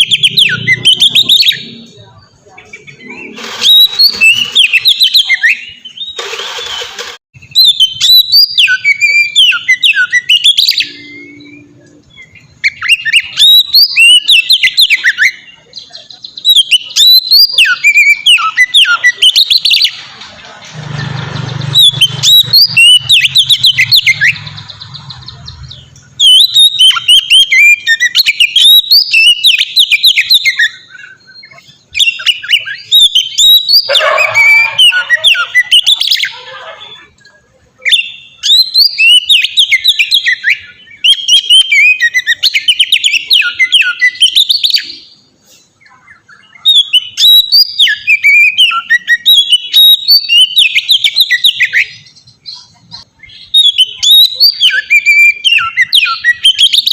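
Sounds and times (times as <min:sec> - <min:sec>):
bird singing whistled phrases: 0:00.0 - 0:01.8, 0:02.6 - 0:06.8, 0:07.4 - 0:19.9, 0:21.6 - 0:24.5, 0:25.3 - 0:37.1, 0:37.8 - 0:45.2, 0:45.9 - 0:52.2, 0:53.2 - 0:56.9.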